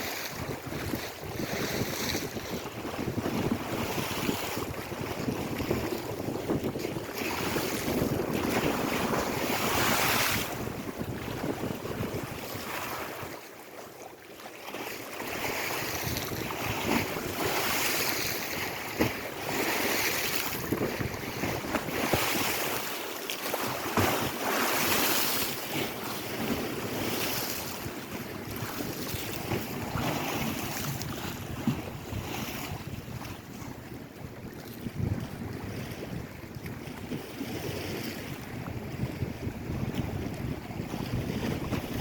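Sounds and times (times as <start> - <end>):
wind buffeting microphone: 0.0 - 13.3, 15.3 - 22.9, 23.9 - 42.0
waves washing against shore: 0.0 - 42.0.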